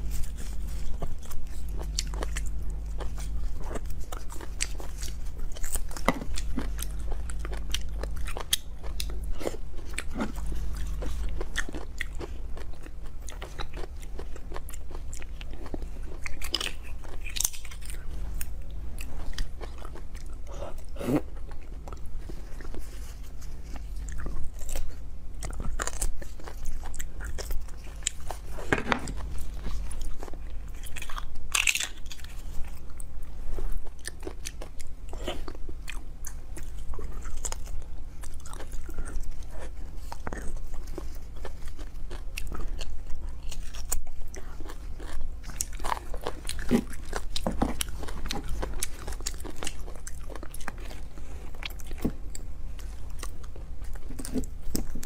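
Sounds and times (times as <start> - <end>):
chewing and biting: 0.0 - 55.0.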